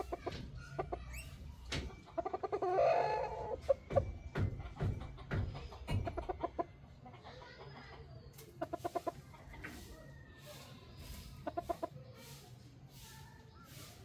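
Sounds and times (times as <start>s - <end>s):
chicken clucking: 0.0s - 14.0s.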